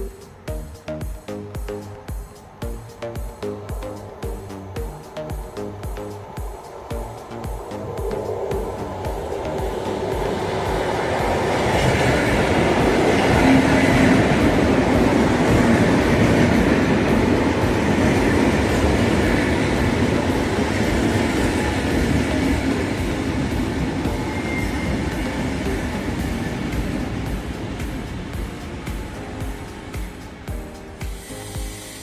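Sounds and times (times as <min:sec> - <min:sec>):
train wheels on track: 0:00.0 - 0:32.0.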